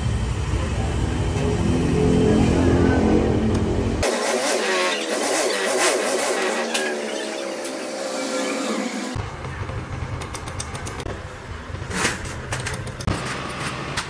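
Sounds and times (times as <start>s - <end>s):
scooter engine revving: 0.0s - 13.1s.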